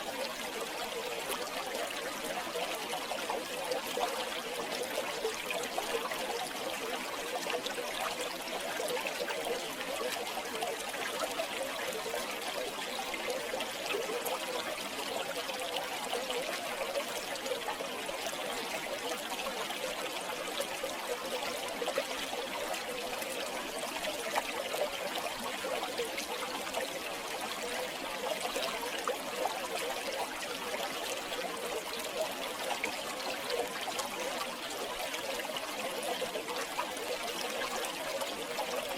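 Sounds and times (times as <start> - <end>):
river water babbling over stones: 0.0 - 38.9.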